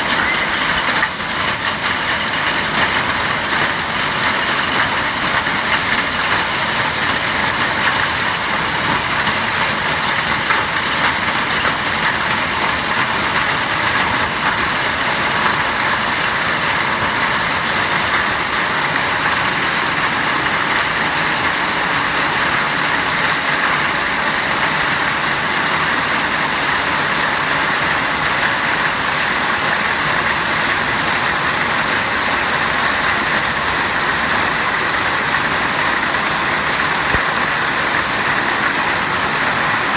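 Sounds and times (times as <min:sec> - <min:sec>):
hail and heavy rain pelting: 0:00.0 - 0:39.9.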